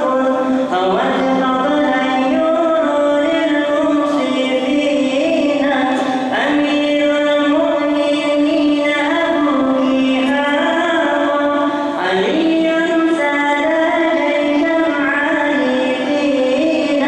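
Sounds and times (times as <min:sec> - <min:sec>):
person chanting: 0:00.0 - 0:17.0.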